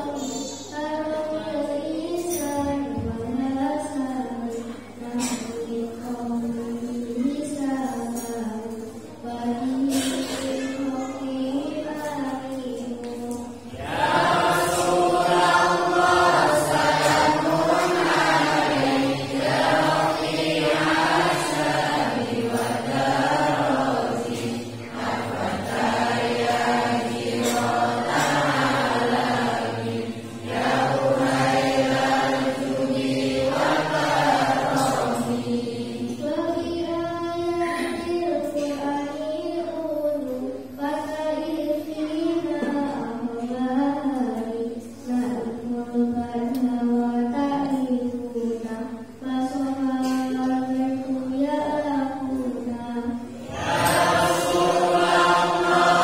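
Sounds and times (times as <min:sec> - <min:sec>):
girls chanting devotional verses: 0:00.0 - 0:56.0.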